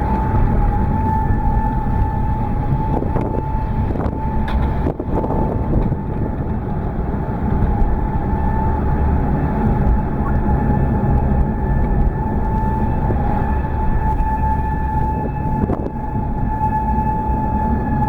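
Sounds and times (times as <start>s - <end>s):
car driving rumble: 0.0s - 18.0s
warning siren steady tone: 0.0s - 18.0s.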